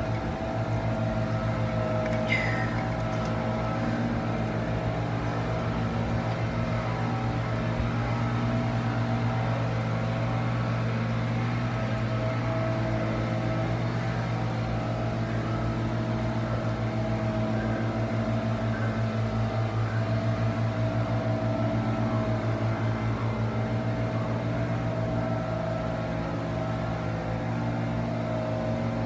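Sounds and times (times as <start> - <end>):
machine humming: 0.0 - 29.0.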